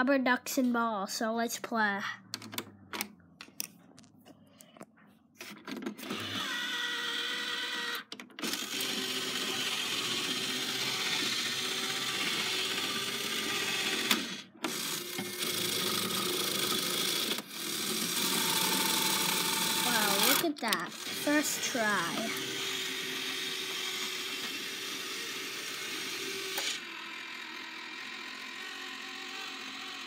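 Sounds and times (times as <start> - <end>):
small electric motors whirring: 5.6 - 30.0.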